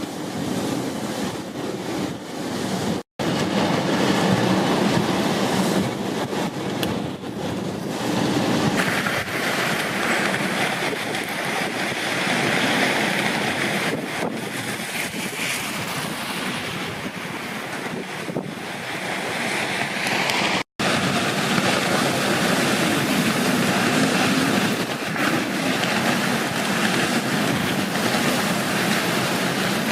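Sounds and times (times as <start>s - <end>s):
heavy rain: 0.0s - 29.9s
storm wind buffeting microphone: 0.0s - 29.9s.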